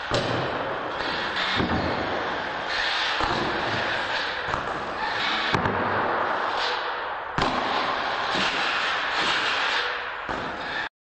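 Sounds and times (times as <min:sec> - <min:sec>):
steady rushing noise: 0:00.0 - 0:10.9.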